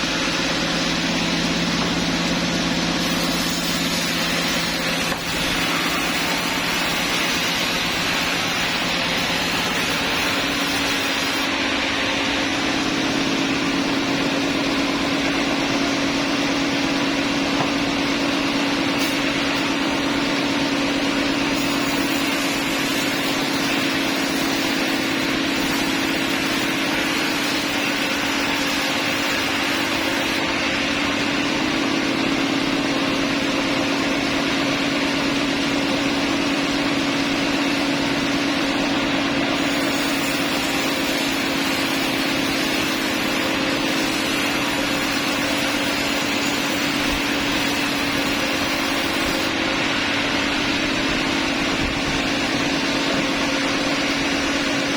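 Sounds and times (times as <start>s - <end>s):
sawmill machinery drone: 0.0s - 54.9s.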